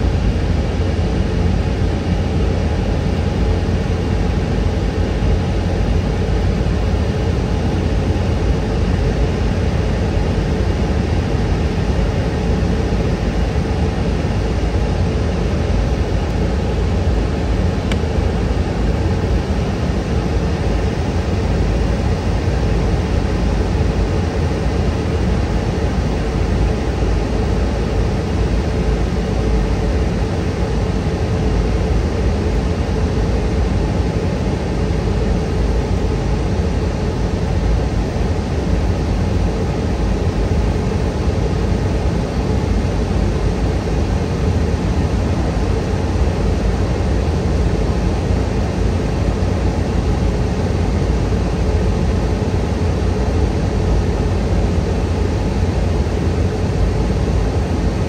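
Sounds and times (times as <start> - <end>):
airliner cabin engine rush: 0.0 - 58.0
faint steady hum: 0.0 - 58.0.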